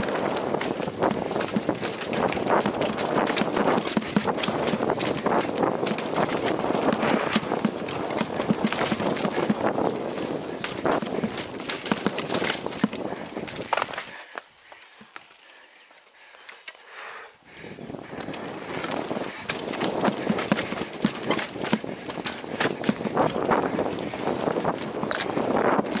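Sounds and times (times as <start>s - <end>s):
bike clattering and rattling: 0.0s - 15.6s, 17.5s - 26.0s
bike tyres on dirt trail: 0.0s - 26.0s.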